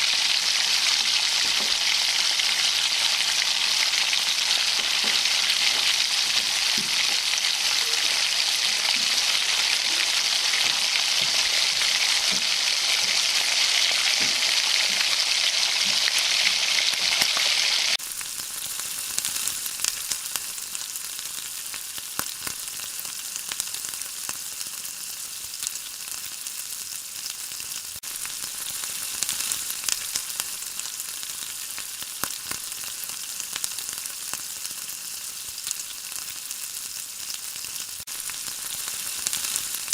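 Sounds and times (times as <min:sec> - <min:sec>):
oil crackling and popping: 0:00.0 - 0:39.9
prawns sizzling in hot oil: 0:00.0 - 0:39.9.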